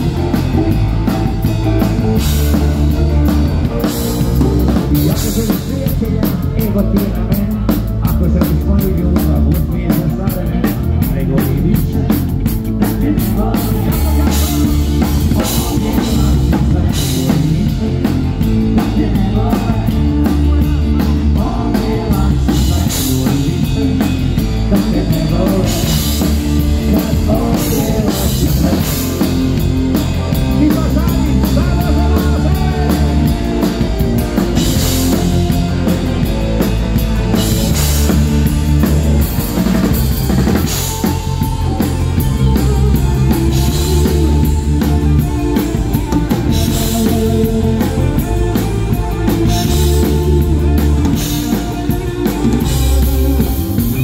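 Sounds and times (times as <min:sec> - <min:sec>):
drum kit: 0:00.0 - 0:54.0
live rock band playing: 0:00.0 - 0:54.0.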